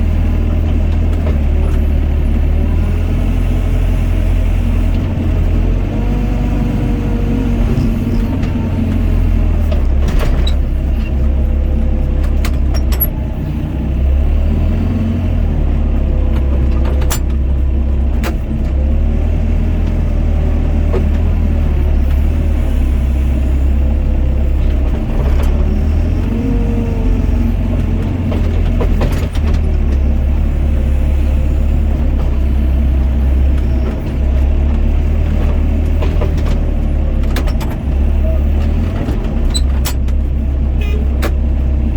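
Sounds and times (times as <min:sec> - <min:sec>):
excavator diesel engine rumbling: 0:00.0 - 0:41.9.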